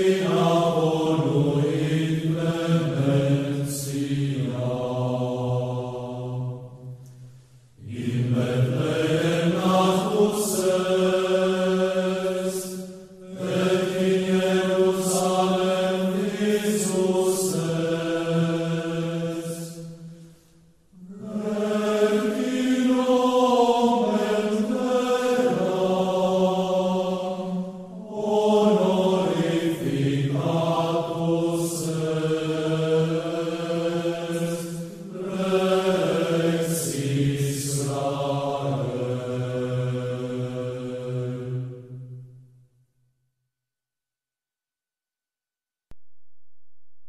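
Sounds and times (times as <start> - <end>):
male voices singing a chant: 0.0 - 6.6, 7.8 - 19.8, 21.0 - 41.8.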